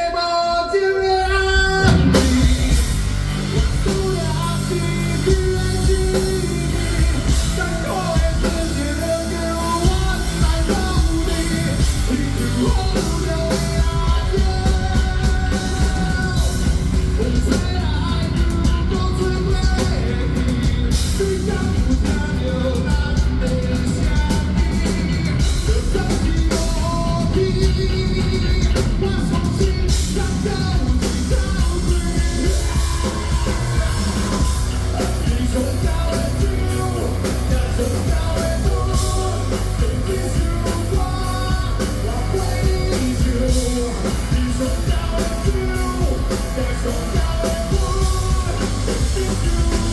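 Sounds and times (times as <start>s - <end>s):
heavy metal song with singer: 0.0s - 49.9s.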